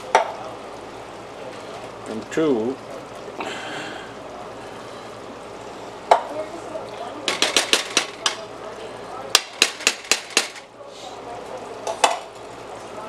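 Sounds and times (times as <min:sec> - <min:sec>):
pot cooking hiss: 0:00.0 - 0:13.0.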